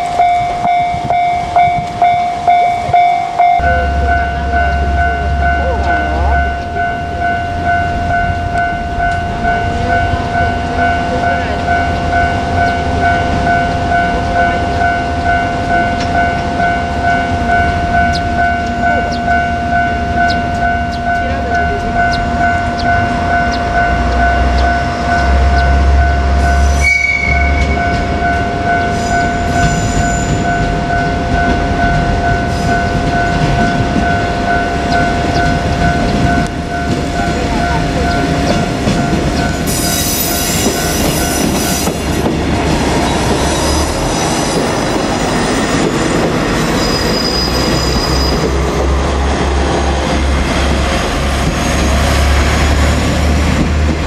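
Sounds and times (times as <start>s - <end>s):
high train toot: 0.0s - 53.4s
diesel railcar engine rumbling: 0.0s - 54.0s
level crossing warning bell: 0.0s - 54.0s.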